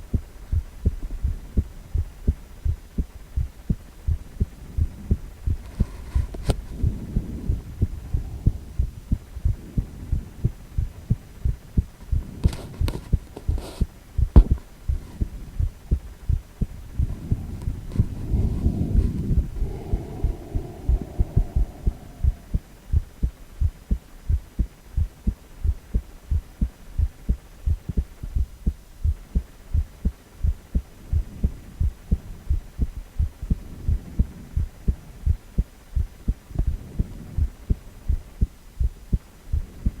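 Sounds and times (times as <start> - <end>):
heartbeat thuds: 0.0 - 40.0.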